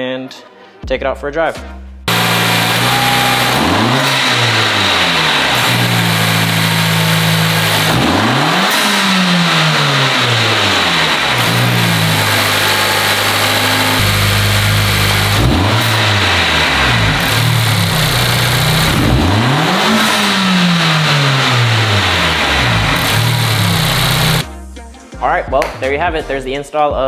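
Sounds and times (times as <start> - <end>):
car engine revving: 2.1 - 24.5.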